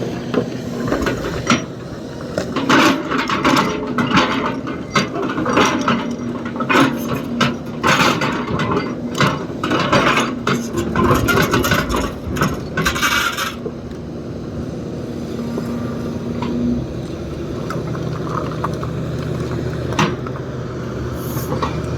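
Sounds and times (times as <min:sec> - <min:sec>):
excavator bucket scraping and clattering: 0:00.0 - 0:14.5, 0:15.5 - 0:21.9
diesel engine running: 0:00.0 - 0:21.9.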